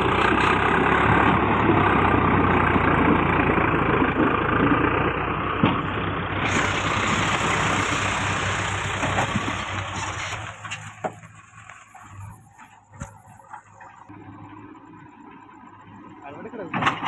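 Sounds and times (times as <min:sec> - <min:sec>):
engine knocks: 0:00.0 - 0:14.1, 0:16.1 - 0:17.0
tractor diesel engine running: 0:00.0 - 0:17.0.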